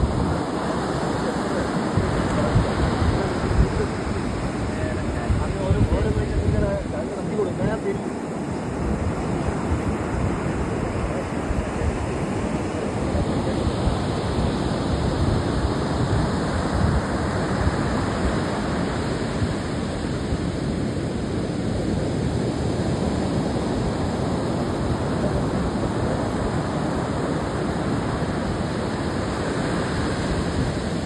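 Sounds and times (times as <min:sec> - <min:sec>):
surf breaking on shore: 0:00.0 - 0:31.0
wind rumbling on microphone: 0:00.0 - 0:31.0.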